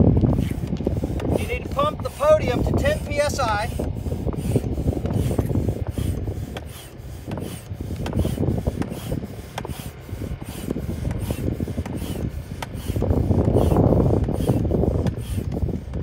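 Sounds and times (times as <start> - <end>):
hand air pump strokes: 0.0 - 16.0.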